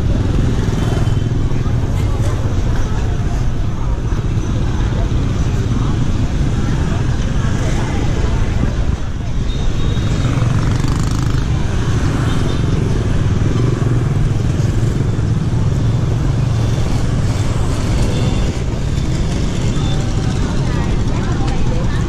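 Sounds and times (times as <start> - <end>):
motor scooter engines humming: 0.0 - 22.0
road noise: 0.0 - 22.0.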